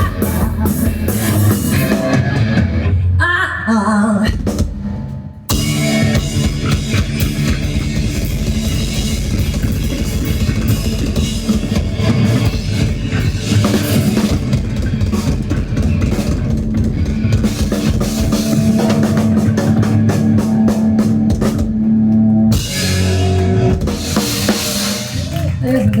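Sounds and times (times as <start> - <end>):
busy drum kit: 0.0 - 2.9, 4.3 - 26.0
rock band playing: 0.0 - 3.0, 5.5 - 26.0.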